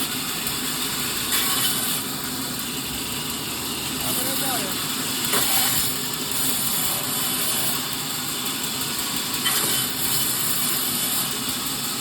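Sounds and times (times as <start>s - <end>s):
firewood cutting machine running: 0.0s - 12.0s.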